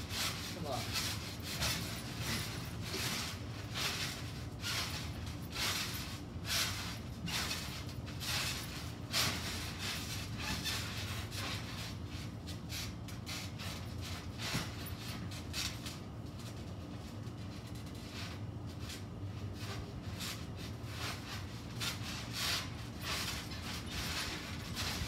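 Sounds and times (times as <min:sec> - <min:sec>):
steady low hum: 0:00.0 - 0:25.0
trampoline springs creaking: 0:00.0 - 0:25.0.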